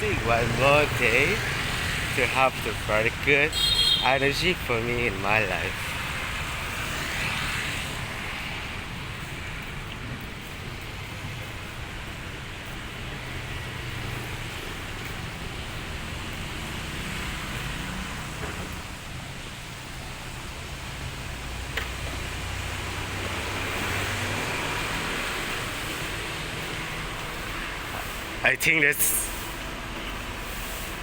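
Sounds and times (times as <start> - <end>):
street traffic rumble and hiss: 0.0 - 31.0.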